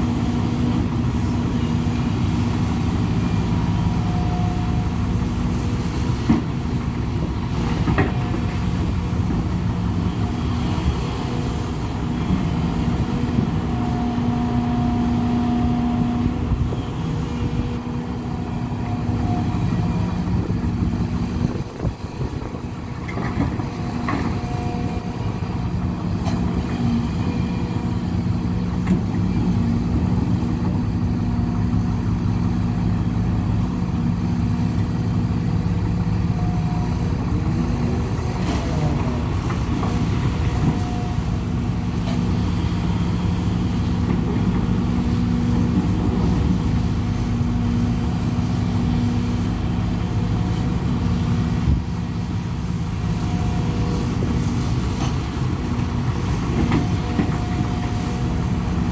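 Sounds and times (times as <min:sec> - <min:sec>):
diesel engine drone: 0:00.0 - 0:58.9.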